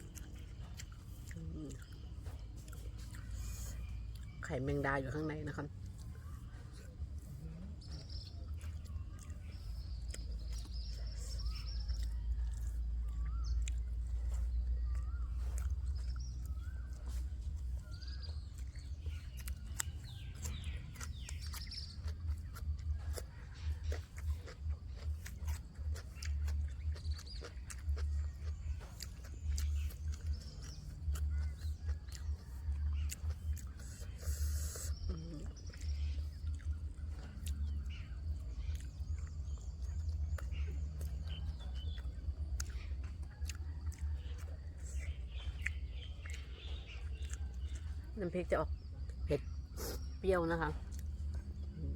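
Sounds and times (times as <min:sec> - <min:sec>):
birds chirping: 0:00.0 - 0:51.9
steady low rumble: 0:00.0 - 0:51.9.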